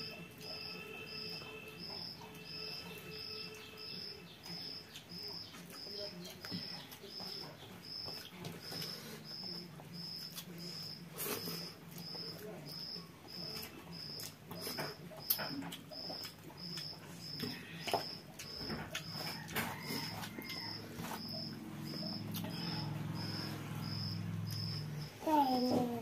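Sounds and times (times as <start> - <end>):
fingers mixing food on steel plates: 0.0 - 25.0.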